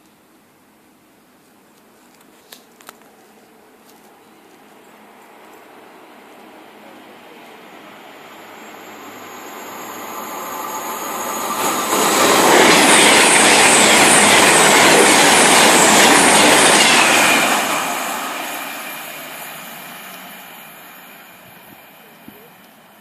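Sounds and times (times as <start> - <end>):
train passing at speed: 3.5 - 23.0.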